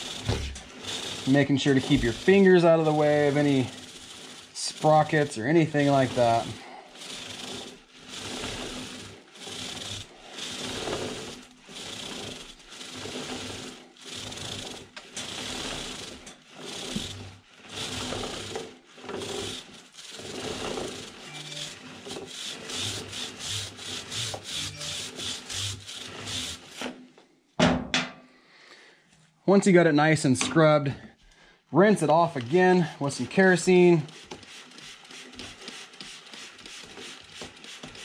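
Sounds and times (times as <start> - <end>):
brush scrubbing metal chain: 0.0 - 27.0, 31.8 - 38.0.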